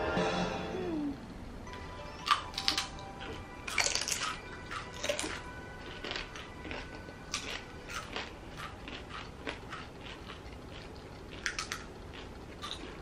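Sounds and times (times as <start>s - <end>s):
tortilla chips crunching: 2.2s - 13.0s.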